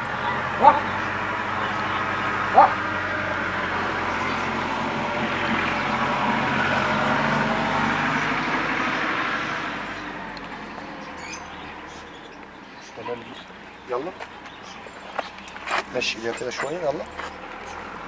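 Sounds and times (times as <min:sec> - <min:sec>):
vehicle engine passing by: 0:00.0 - 0:18.0.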